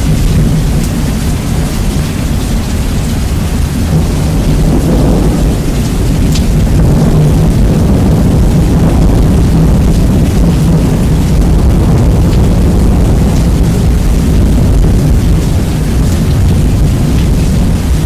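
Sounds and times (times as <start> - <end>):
deep thunder rumble: 0.0 - 18.0
rain hiss: 0.0 - 18.0.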